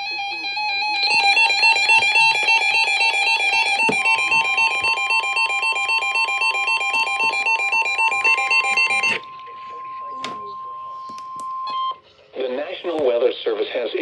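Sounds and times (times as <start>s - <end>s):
steady high warning tone: 0.0s - 12.4s.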